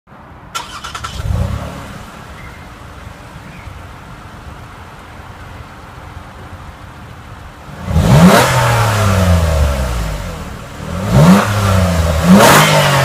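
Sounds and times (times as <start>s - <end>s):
car engine starting and idling: 0.4s - 13.0s.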